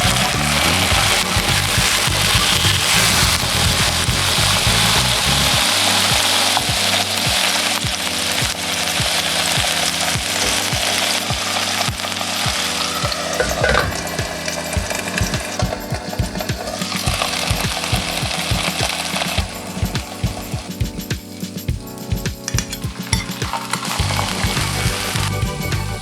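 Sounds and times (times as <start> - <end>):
background music with light beat: 0.0 - 26.0.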